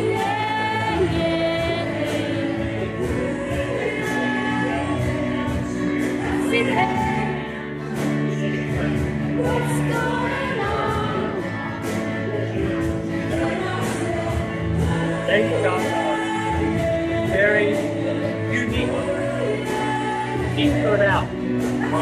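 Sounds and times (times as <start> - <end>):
instrumental accompaniment: 0.0 - 22.0
woman singing into a microphone: 0.0 - 22.0.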